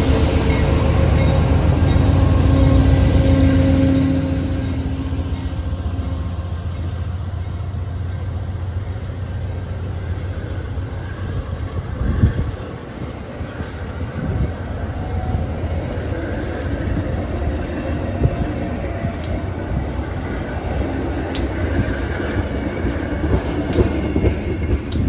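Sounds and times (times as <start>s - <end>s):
passenger train rumbling by: 0.0s - 25.0s.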